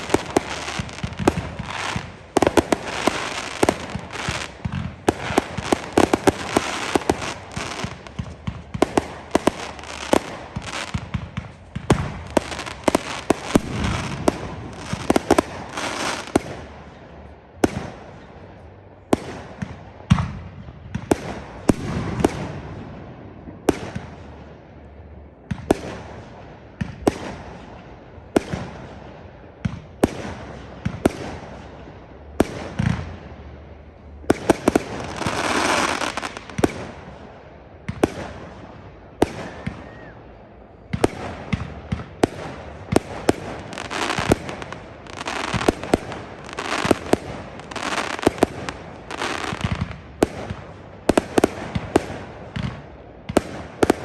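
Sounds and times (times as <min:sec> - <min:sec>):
fireworks bangs with echo: 0:00.0 - 0:54.0
fireworks crackling: 0:00.0 - 0:54.0.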